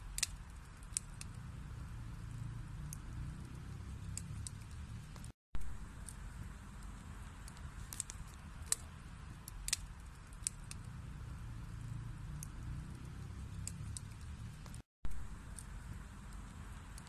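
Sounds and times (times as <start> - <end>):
burning wood crackling and popping: 0.0 - 17.0
fire rumbling in fireplace: 0.0 - 17.0.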